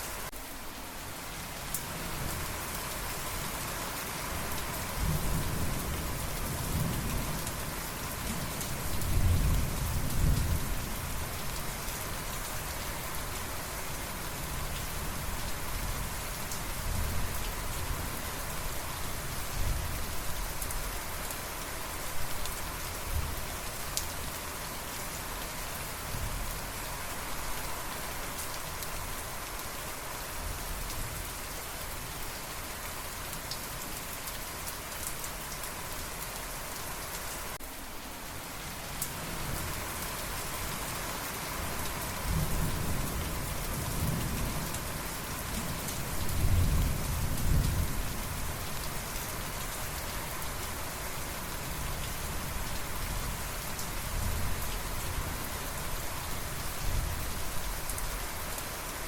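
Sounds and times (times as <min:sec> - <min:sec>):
steady rain hissing: 0:00.0 - 0:59.0.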